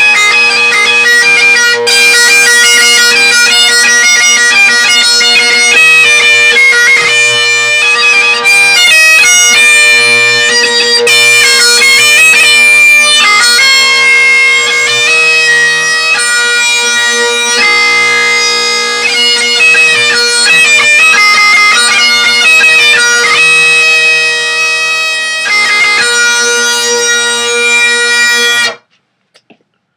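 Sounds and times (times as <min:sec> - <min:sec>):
bagpipe chanter melody: 0:00.0 - 0:28.9
bagpipe drones: 0:00.0 - 0:28.9.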